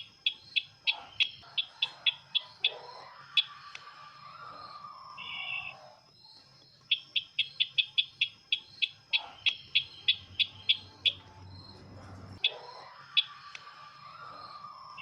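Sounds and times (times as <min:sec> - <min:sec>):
faint steady high tone: 0:00.0 - 0:15.0.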